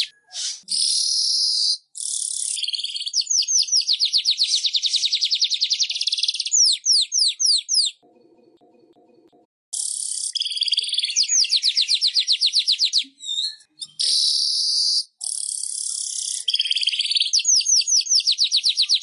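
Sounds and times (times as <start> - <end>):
bird singing trills and whistles: 0.0 - 8.0, 9.8 - 19.0.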